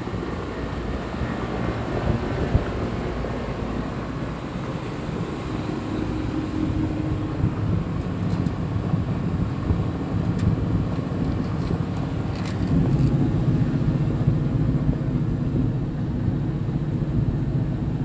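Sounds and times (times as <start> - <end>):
generator and air conditioner drone: 0.0 - 18.0.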